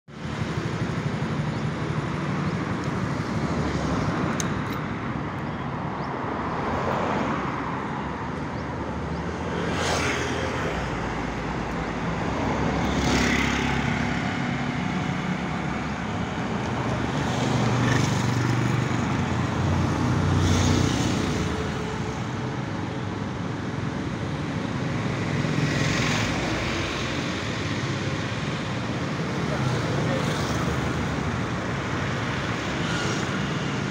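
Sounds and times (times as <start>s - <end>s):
road traffic noise: 0.1s - 33.9s
vehicles passing: 0.1s - 33.9s.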